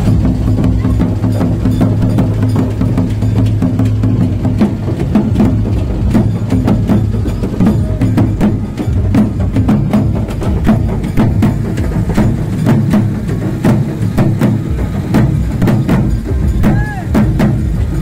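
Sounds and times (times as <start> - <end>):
barrel drums beaten with sticks: 0.0 - 18.0.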